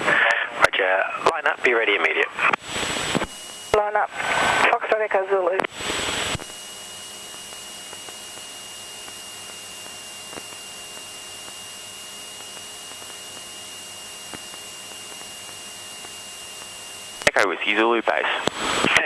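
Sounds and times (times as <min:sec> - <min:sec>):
radio hiss with high whine: 0:00.0 - 0:19.0.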